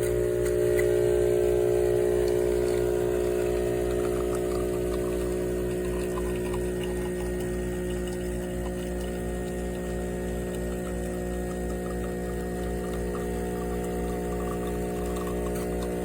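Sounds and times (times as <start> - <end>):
espresso machine pump humming: 0.0 - 16.0.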